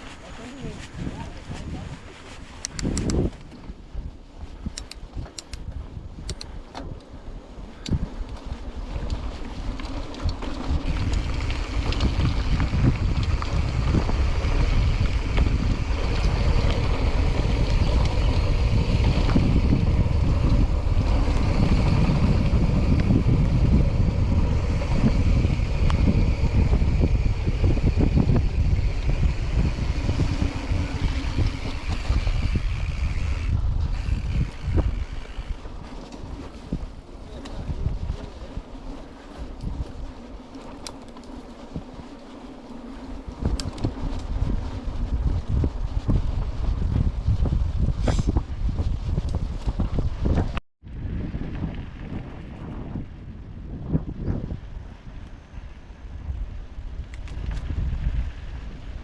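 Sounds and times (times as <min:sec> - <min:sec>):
wind rushing over microphone: 0:00.0 - 0:59.0
bike knocks and rattles: 0:02.8 - 0:50.6.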